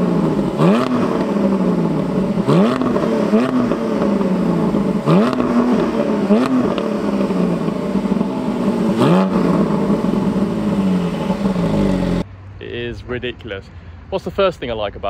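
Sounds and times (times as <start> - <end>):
loud car engine revving: 0.0 - 12.3.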